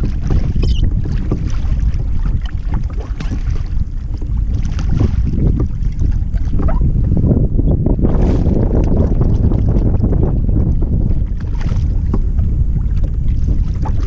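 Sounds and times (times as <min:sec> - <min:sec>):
water lapping against a hull: 0:00.0 - 0:14.0
wind buffeting microphone: 0:00.0 - 0:14.0.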